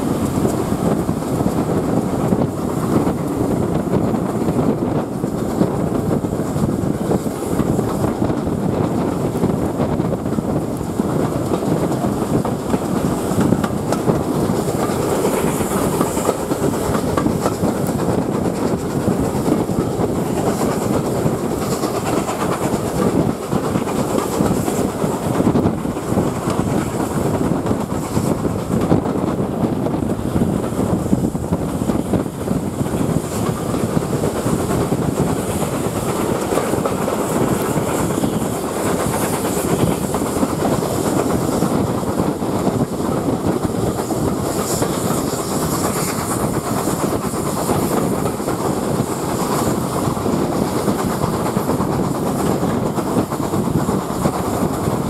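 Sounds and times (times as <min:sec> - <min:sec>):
clickety-clack over rail joints: 0:00.0 - 0:55.0
train wheels rumbling on track: 0:00.0 - 0:55.0.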